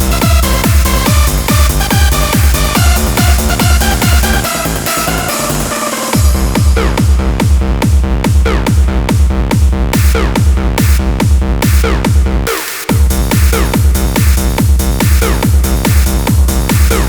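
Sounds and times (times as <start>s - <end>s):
electronic dance music: 0.0s - 17.0s
steady kick drum: 0.0s - 17.0s.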